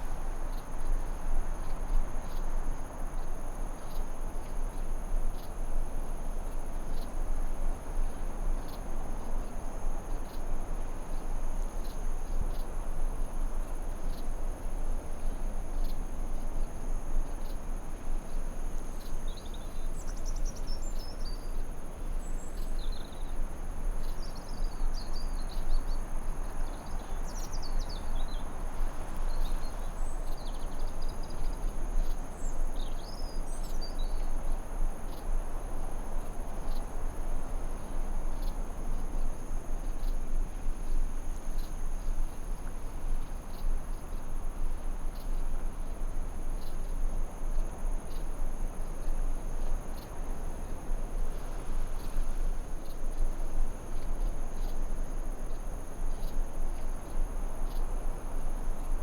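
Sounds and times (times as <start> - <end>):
crickets droning: 0.0 - 59.0.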